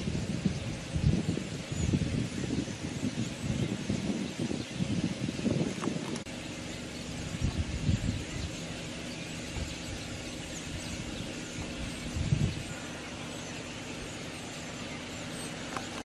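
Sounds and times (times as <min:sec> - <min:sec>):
starlings chattering: 0:00.0 - 0:16.0
vehicle engine running: 0:00.0 - 0:16.0
wind buffeting microphone: 0:00.0 - 0:16.0.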